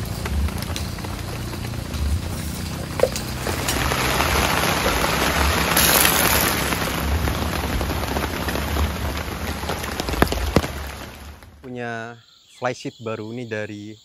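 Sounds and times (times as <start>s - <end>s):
heavy rain falling: 0.0s - 11.7s.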